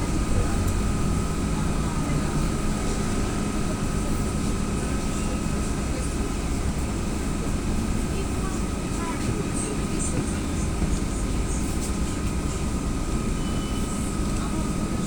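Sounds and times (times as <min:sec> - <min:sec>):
trolleybus running: 0:00.0 - 0:15.0.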